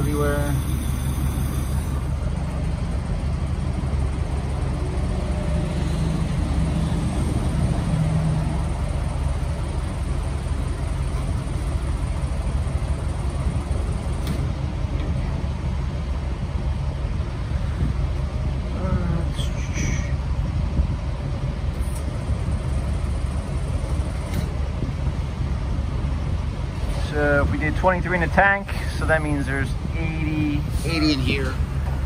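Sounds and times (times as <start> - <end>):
low rumble of vehicles: 0.0 - 32.0.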